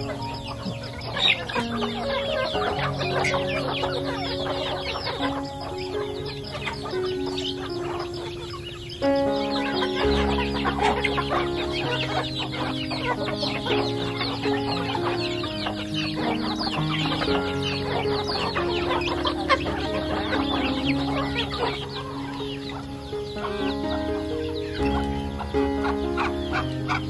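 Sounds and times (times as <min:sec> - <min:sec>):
chickens clucking: 0:00.0 - 0:27.0
slow background music: 0:00.0 - 0:27.0.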